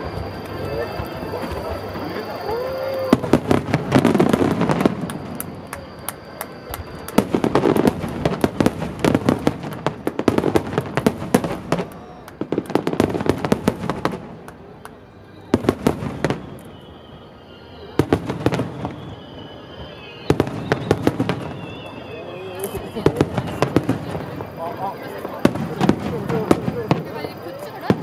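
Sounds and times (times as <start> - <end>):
fireworks bursting with bangs: 0.0 - 28.0.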